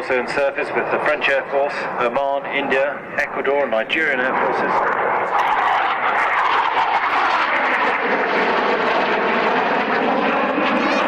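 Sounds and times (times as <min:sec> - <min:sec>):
jet flying past roaring: 0:00.0 - 0:11.0.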